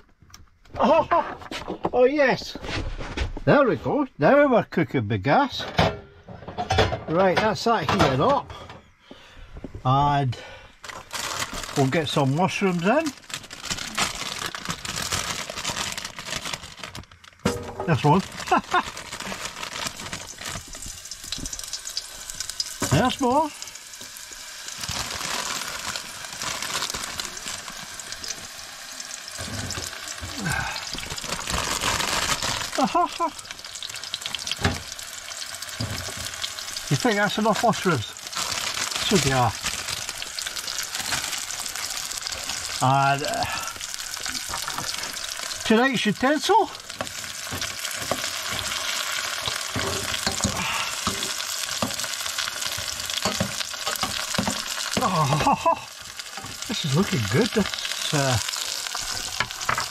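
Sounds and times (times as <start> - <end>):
mushrooms sizzling in oil: 11.0 - 59.9.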